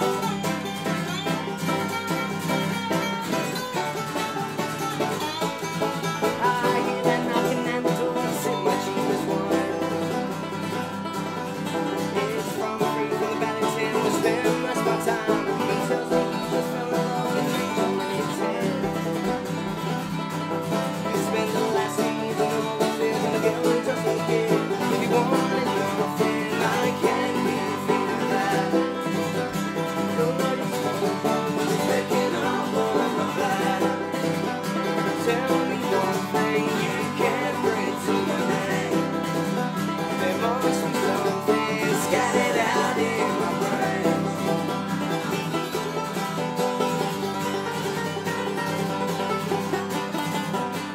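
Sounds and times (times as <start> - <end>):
picked banjo: 0.0 - 50.9
resonator guitar: 0.0 - 50.9
strummed acoustic guitar: 0.0 - 50.9.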